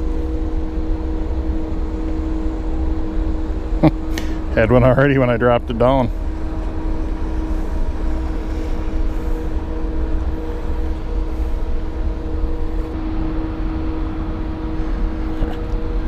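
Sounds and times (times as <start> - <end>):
motor hum: 0.0 - 16.0.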